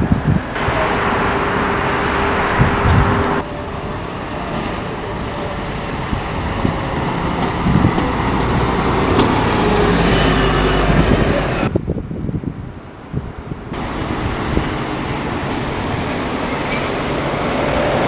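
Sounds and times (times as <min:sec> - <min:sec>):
heavy vehicle engine rumble: 0:00.0 - 0:18.0
street traffic: 0:00.0 - 0:18.0.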